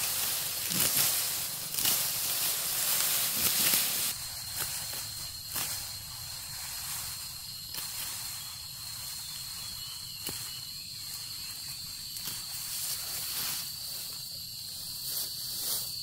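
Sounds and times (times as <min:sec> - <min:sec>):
hiss: 0:00.0 - 0:16.0
insects droning: 0:00.0 - 0:16.0.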